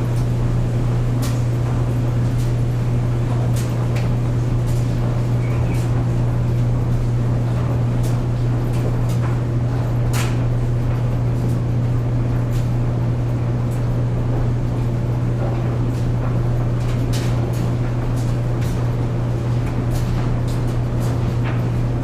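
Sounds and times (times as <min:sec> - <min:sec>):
clothes dryer humming: 0:00.0 - 0:22.0
load tumbling in dryer drum: 0:00.0 - 0:22.0.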